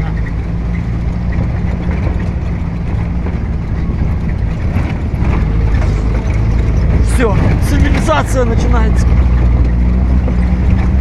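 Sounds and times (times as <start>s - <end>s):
vehicle engine drone from cabin: 0.0s - 11.0s.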